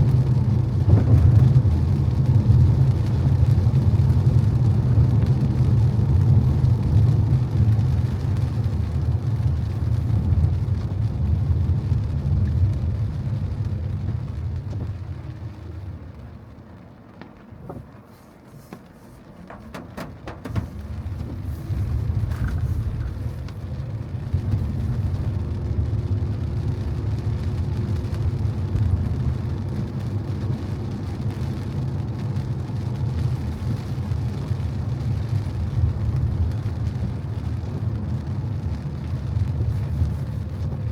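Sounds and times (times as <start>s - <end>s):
car driving on wet road: 0.0s - 40.9s.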